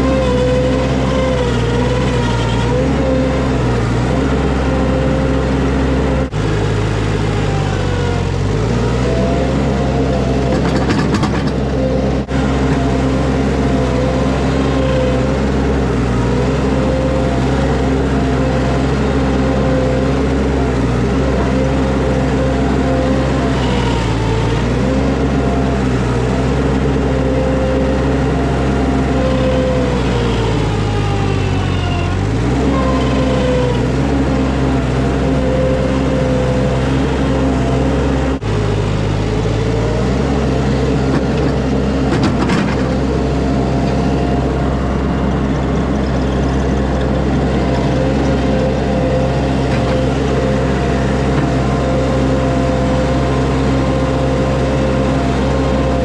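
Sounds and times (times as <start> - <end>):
skid steer engine revving: 0.0 - 56.0.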